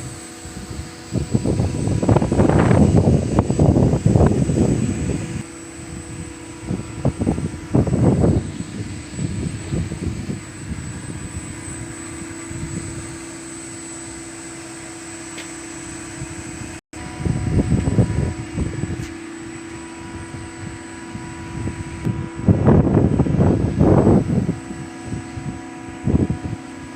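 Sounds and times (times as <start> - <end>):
droning tone: 0.0 - 26.9
machinery hum: 0.0 - 26.9.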